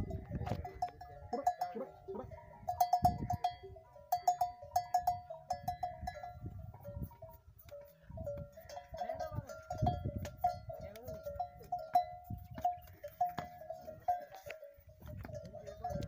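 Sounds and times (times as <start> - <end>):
camel bells clanking: 0.0 - 16.0.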